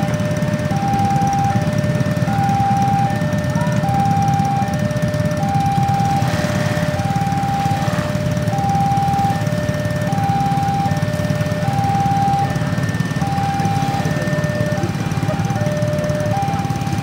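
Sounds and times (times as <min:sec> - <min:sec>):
level crossing alarm alternating tones: 0:00.0 - 0:17.0
low engine rumble: 0:00.0 - 0:17.0.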